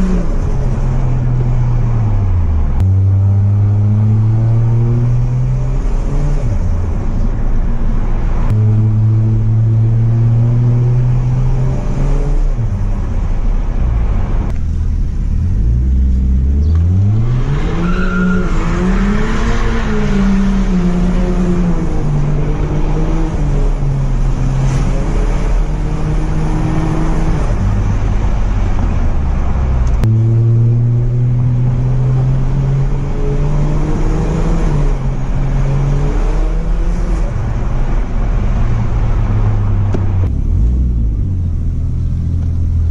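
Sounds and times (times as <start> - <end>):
car engine revving: 0.0 - 7.3, 8.1 - 42.9.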